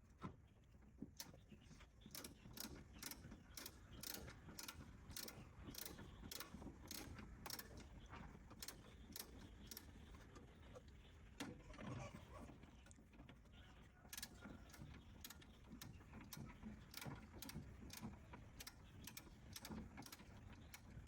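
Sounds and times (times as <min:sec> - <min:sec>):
faint mechanical clicking: 0:01.2 - 0:11.6, 0:14.0 - 0:21.0.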